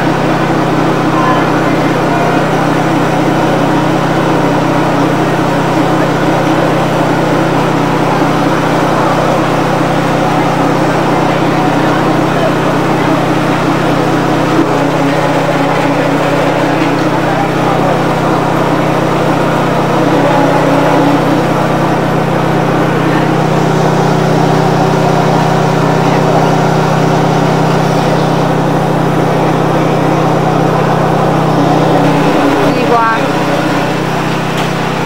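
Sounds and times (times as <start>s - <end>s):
indistinct voices: 0.0s - 35.0s
small engine running: 0.0s - 35.0s.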